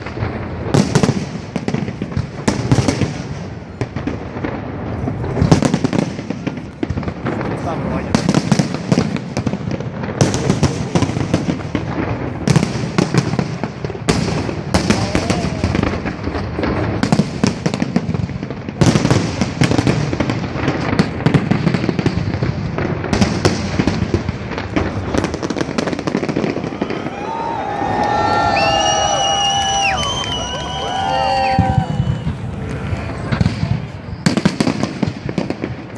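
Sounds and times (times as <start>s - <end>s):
fireworks bursts: 0.0s - 35.9s
fireworks crackling: 0.0s - 35.9s.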